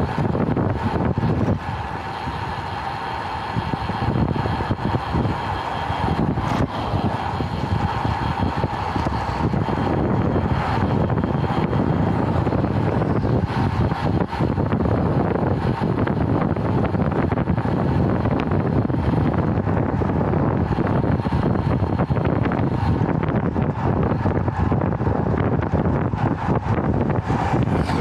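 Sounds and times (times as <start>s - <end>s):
road and tyre rumble: 0.0s - 28.0s
wind rushing over microphone: 0.0s - 28.0s.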